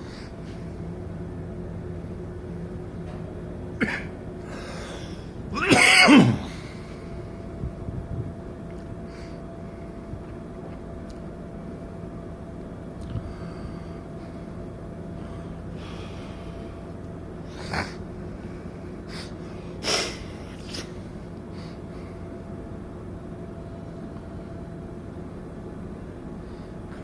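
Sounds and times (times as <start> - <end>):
ship machinery hum: 0.0 - 27.0.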